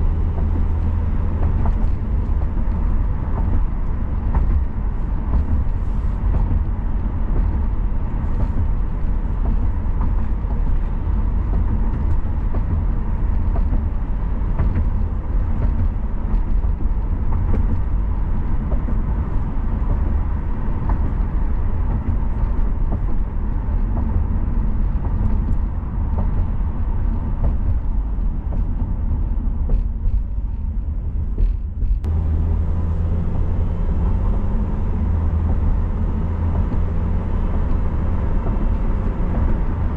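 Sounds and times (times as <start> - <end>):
car tyres and engine rumble: 0.0 - 39.9
low hum: 0.0 - 39.9.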